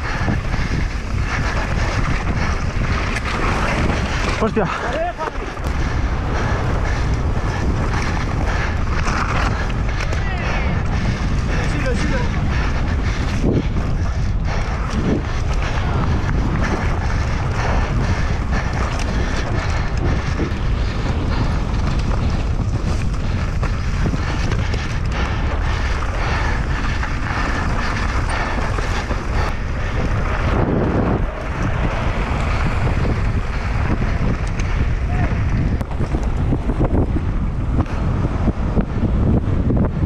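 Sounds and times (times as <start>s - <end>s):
bike rattling over rough ground: 0.0s - 40.0s
wind buffeting microphone: 0.0s - 40.0s.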